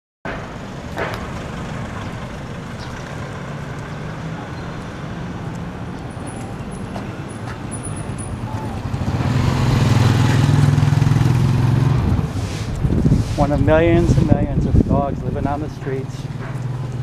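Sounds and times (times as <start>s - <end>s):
road noise: 0.3s - 17.0s
vehicle engines droning: 0.3s - 17.0s.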